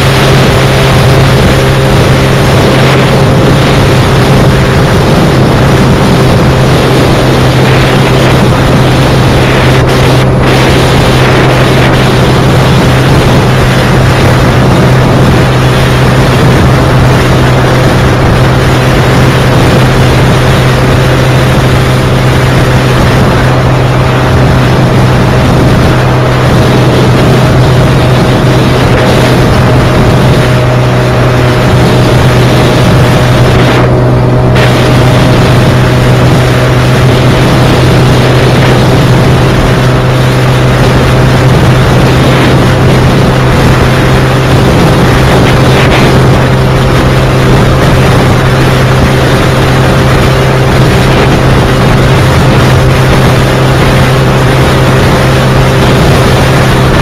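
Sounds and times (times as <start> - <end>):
motorcycle engine humming: 0.0 - 57.0
wind buffeting microphone: 0.0 - 57.0.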